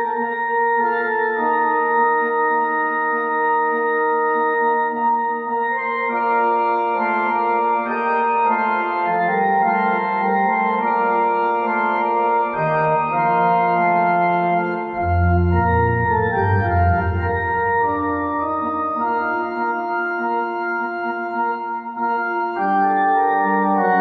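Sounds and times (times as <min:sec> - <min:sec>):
organ playing held chords: 0:00.0 - 0:24.0
low organ bass notes: 0:00.3 - 0:24.0.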